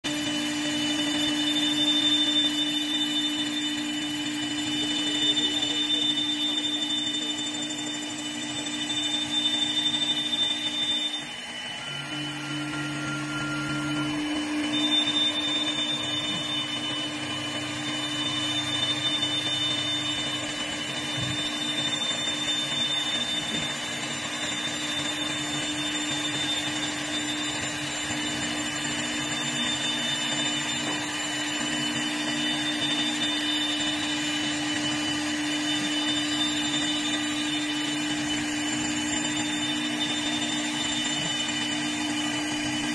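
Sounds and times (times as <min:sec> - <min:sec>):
lathe cutting wood: 0:00.0 - 0:42.9.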